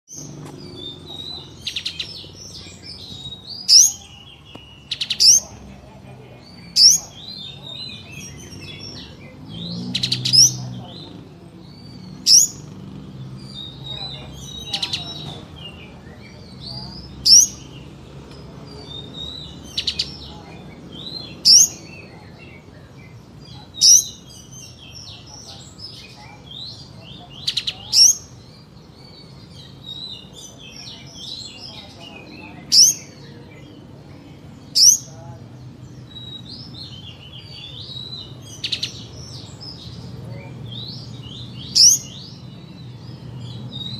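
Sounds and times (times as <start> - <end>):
bird sharp high-pitched calls: 0.1 - 5.8, 6.4 - 17.9, 18.7 - 33.9, 34.6 - 35.3, 36.0 - 43.9
bird twittering chirps: 0.1 - 43.9.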